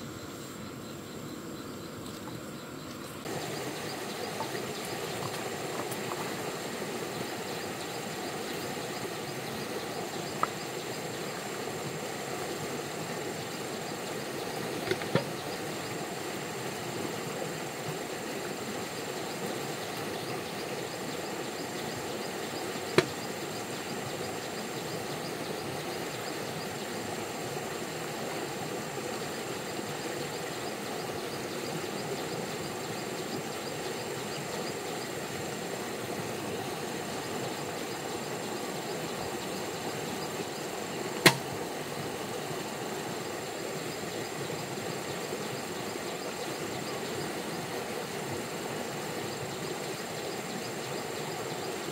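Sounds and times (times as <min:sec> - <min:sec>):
flowing river water: 0:00.0 - 0:51.9.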